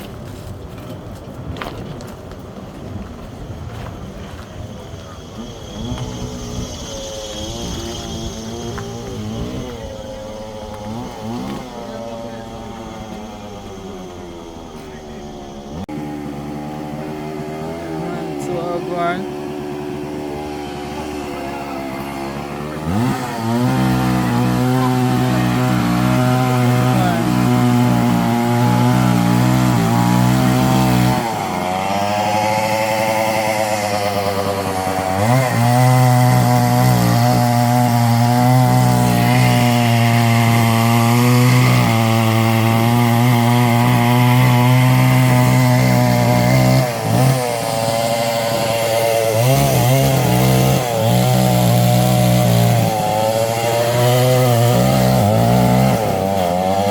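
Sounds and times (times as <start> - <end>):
chainsaw revving and idling: 3.1 - 56.9.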